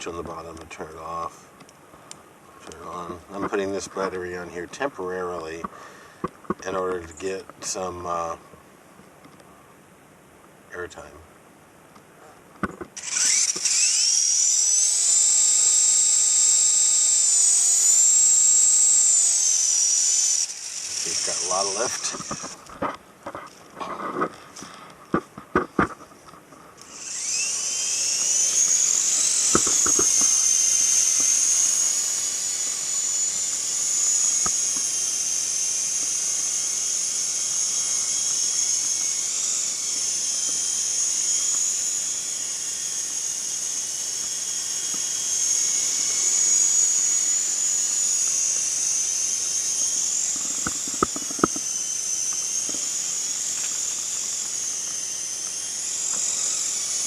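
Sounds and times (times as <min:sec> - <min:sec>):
toy helicopter rotors whining: 0:02.6 - 0:08.4, 0:12.7 - 0:25.2, 0:26.8 - 0:57.0.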